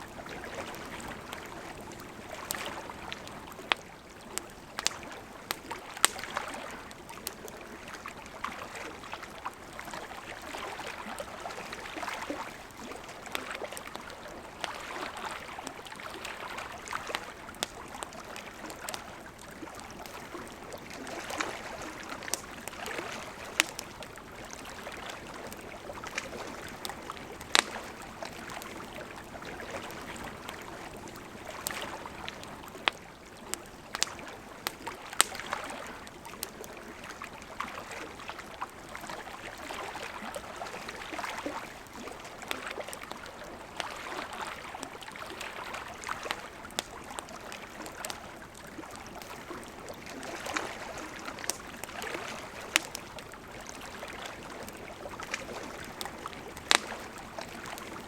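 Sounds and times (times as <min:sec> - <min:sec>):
campfire crackling: 0:00.0 - 0:58.0
small waves lapping: 0:00.0 - 0:58.0.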